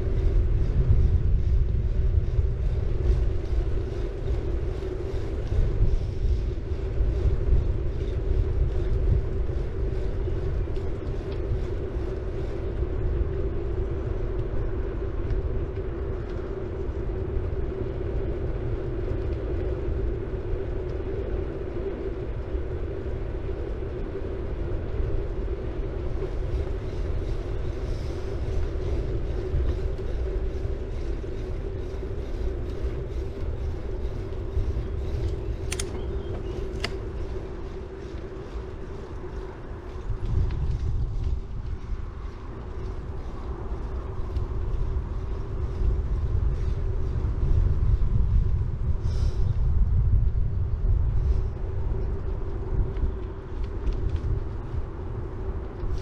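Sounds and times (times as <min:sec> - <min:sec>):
bike tyre noise: 0:00.0 - 0:56.0
wind rumbling on microphone: 0:00.0 - 0:56.0.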